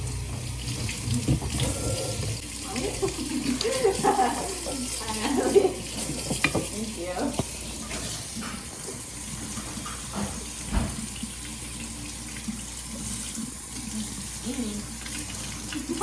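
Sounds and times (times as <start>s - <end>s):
tap water pouring into sink: 0.0s - 16.0s.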